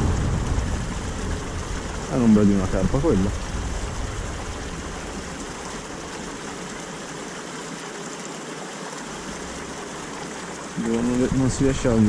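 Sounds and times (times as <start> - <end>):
water pouring from a pipe: 0.0 - 12.0.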